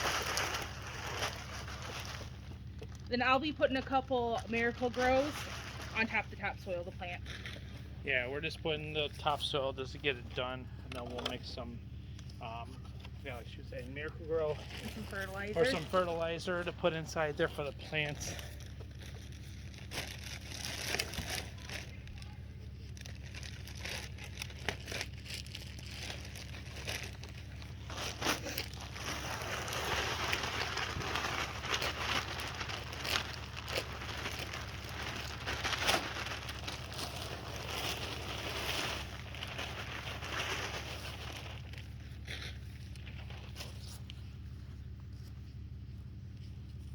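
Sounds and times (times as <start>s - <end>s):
gritty soil scraping and crunching: 0.0s - 46.9s
steady low hum: 0.0s - 46.9s.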